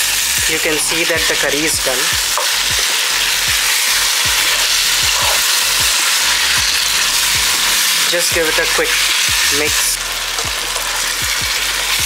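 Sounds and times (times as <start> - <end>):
curry sizzling and bubbling in pan: 0.0 - 12.0.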